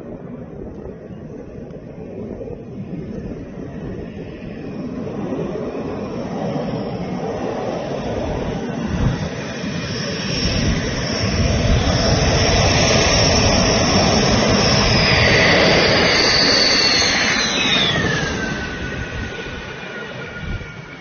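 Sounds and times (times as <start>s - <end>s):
high jet whine dropping in pitch: 0.0s - 21.0s
jet engine roar: 0.0s - 21.0s.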